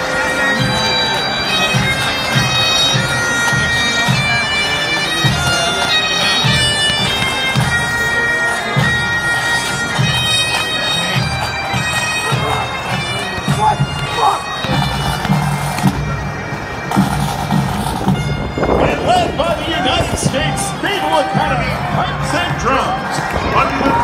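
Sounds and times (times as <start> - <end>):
bagpipes with drones: 0.0 - 24.0.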